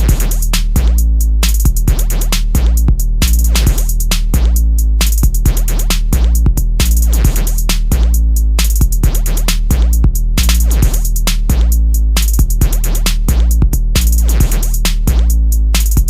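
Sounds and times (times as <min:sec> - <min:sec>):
deep sub-bass tones: 0:00.0 - 0:16.0
drum machine beat: 0:00.0 - 0:16.0.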